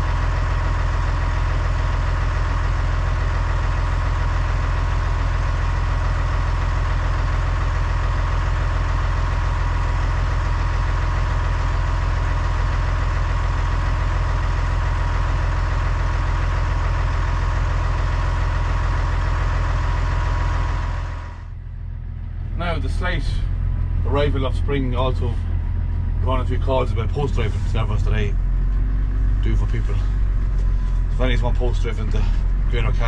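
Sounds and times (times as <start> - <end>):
diesel tractor engine idling: 0.0 - 33.0.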